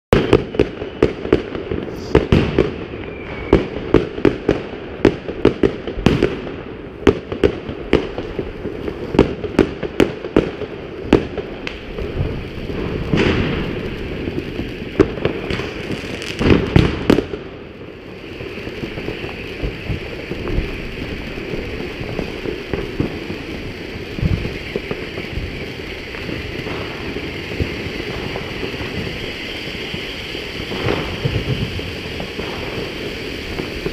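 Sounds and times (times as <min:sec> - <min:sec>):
firework bangs: 0:00.1 - 0:33.9
firework sparks hissing: 0:00.2 - 0:33.9.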